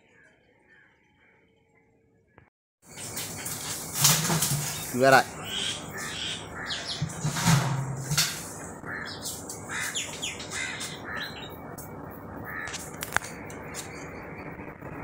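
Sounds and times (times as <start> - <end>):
birds calling: 2.3 - 14.7.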